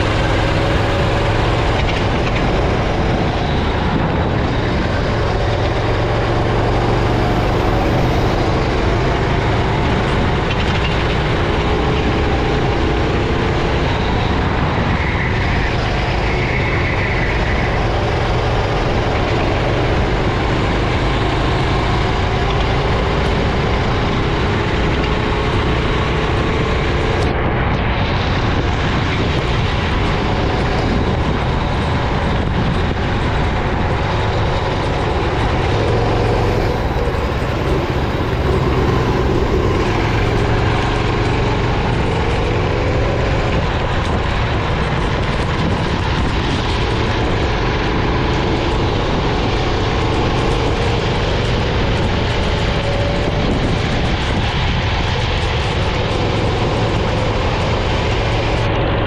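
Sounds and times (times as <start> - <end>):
loud rushing noise: 0.0 - 59.0
racing kart engine: 0.0 - 59.0.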